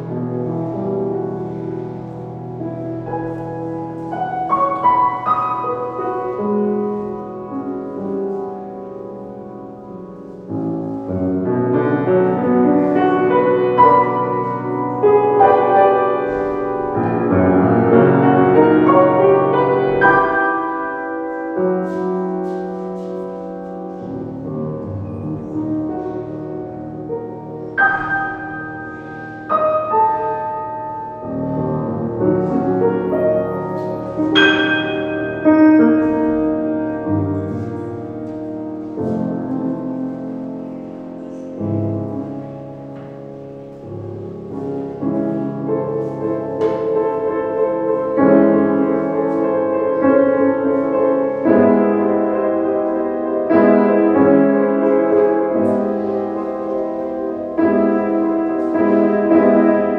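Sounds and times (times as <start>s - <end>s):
solo grand piano: 0.0s - 59.9s.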